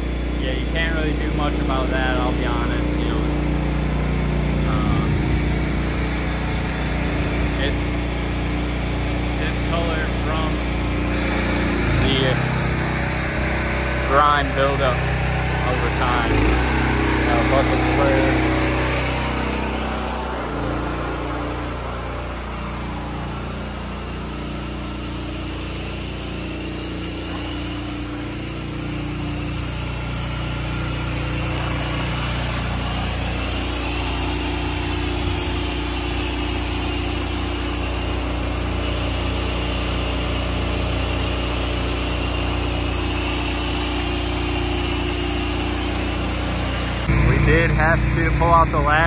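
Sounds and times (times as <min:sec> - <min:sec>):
high-pressure water spray on wall: 0:00.0 - 0:47.9
pressure washer engine hum: 0:00.0 - 0:49.0.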